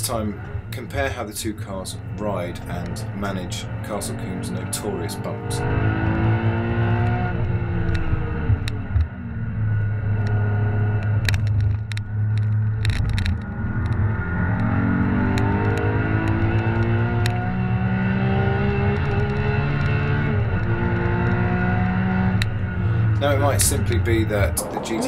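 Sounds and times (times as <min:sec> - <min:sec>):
sports car engine revving: 0:00.0 - 0:25.0.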